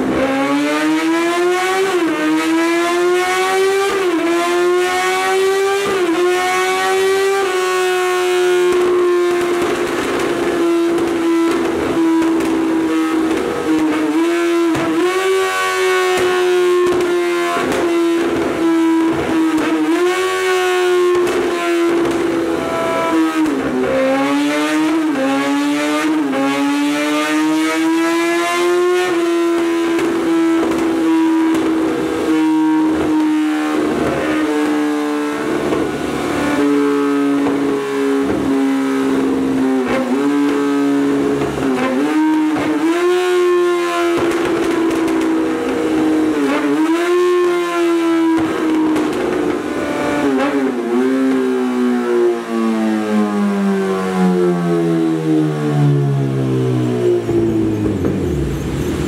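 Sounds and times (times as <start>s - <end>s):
motorcycle engine revving high: 0.0s - 59.0s.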